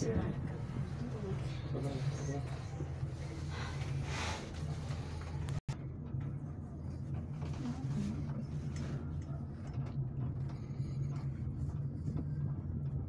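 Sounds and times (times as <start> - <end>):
cable car cabin hum: 0.0 - 13.0.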